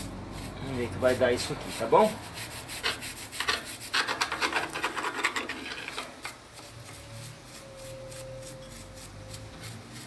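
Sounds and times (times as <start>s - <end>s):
brush scrubbing metal: 0.0s - 10.0s.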